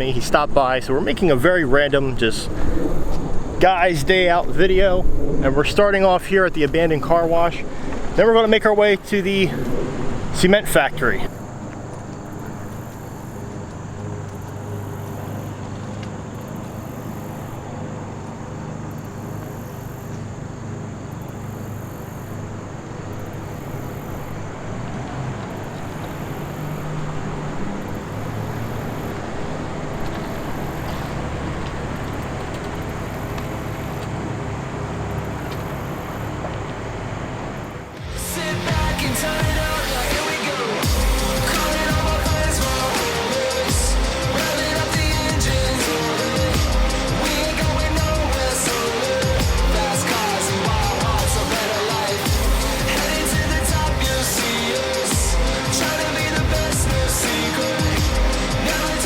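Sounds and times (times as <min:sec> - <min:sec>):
low car engine hum: 0:00.0 - 0:59.0
road rumble: 0:00.0 - 0:59.0.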